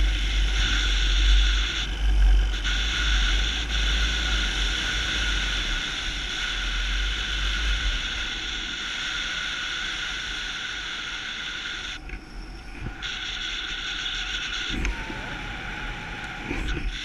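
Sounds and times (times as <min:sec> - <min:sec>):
powered paraglider in flight: 0:00.0 - 0:17.0.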